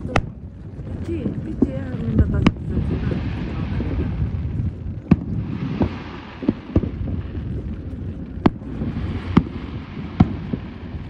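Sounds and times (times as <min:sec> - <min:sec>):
fireworks bursting with sharp bangs: 0:00.0 - 0:11.0
low background rumble: 0:00.0 - 0:11.0.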